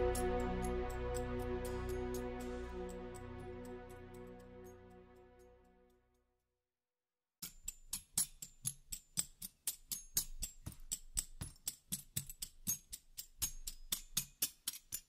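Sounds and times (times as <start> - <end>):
percussive music with ticking beats: 0.0 - 4.8, 7.4 - 15.0.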